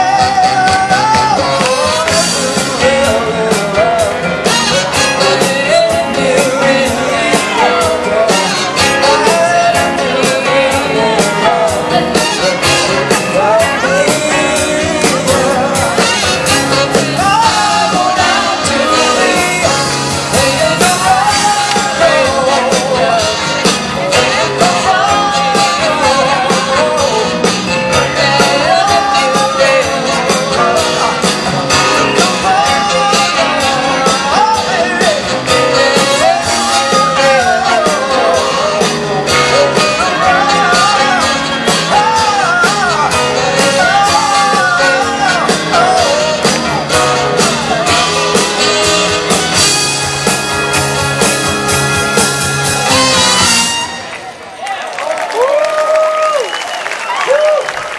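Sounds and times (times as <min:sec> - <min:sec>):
lead singer singing: 0:00.0 - 0:51.6
drums keeping a steady beat: 0:00.0 - 0:54.0
live band through a pa: 0:00.0 - 0:57.9.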